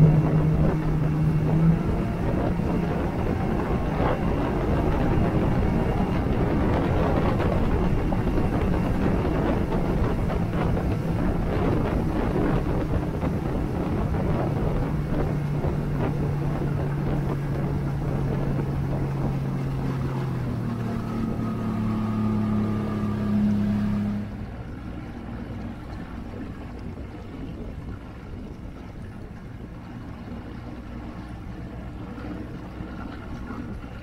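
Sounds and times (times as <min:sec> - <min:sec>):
outboard motor running: 0:00.0 - 0:34.0
rushing wake water: 0:00.0 - 0:34.0.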